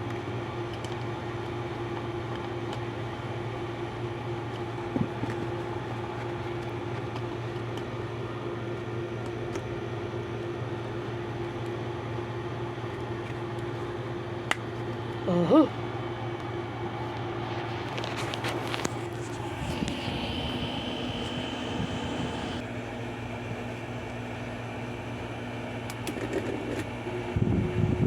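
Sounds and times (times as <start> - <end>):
ceiling fan motor humming: 0.0 - 26.2, 26.8 - 28.0.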